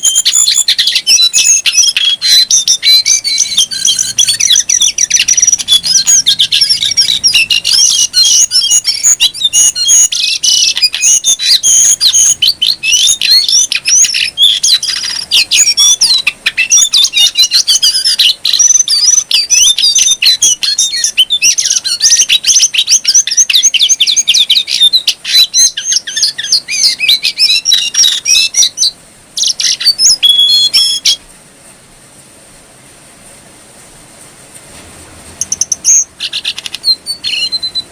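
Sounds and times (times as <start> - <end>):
songbird twittering: 0.0 - 31.3, 35.4 - 37.9.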